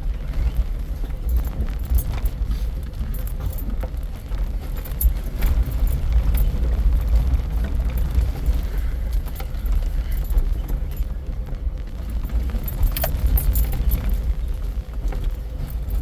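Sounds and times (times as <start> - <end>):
vehicle engine rumble from inside: 0.0 - 16.0.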